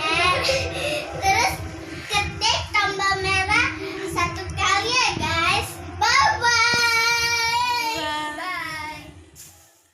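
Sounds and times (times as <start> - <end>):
child singing: 0.0 - 9.2.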